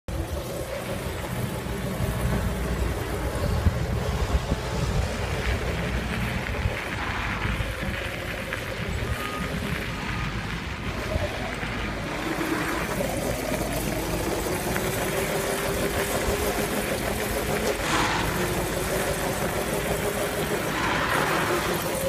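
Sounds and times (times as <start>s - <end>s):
rolling on gravel path: 0.1s - 22.0s
wind buffeting microphone: 0.1s - 22.0s.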